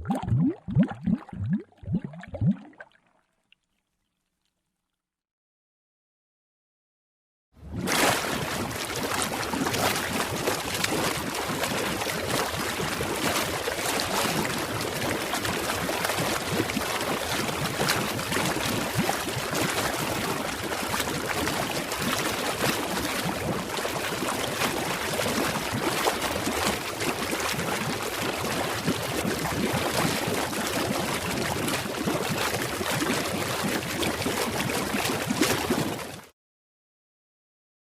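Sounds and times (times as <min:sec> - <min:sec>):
bubbles gurgling underwater: 0:00.0 - 0:03.0, 0:07.6 - 0:36.3.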